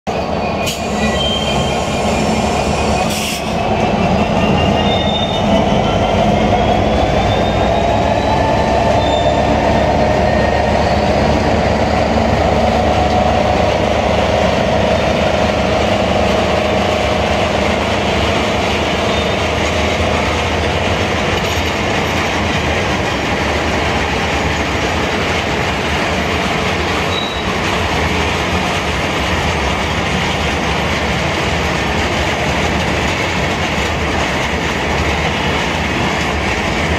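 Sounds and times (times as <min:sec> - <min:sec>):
train wheels rumbling on rails: 0:00.1 - 0:36.9.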